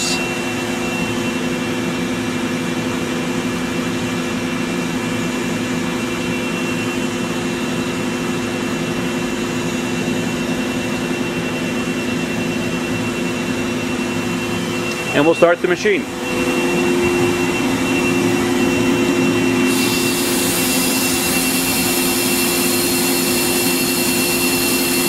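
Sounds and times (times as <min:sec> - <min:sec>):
industrial equipment droning: 0:00.0 - 0:25.0.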